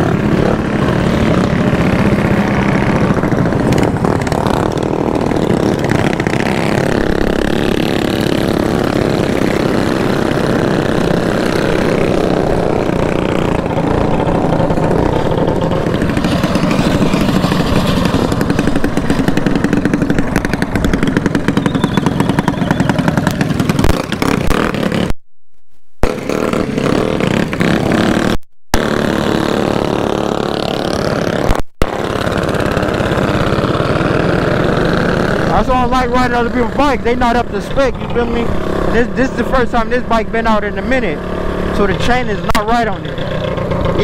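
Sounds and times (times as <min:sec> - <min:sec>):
mini bike engine running: 0:00.0 - 0:25.1, 0:26.0 - 0:44.0
other mini bike engines: 0:00.0 - 0:25.2, 0:26.0 - 0:44.0.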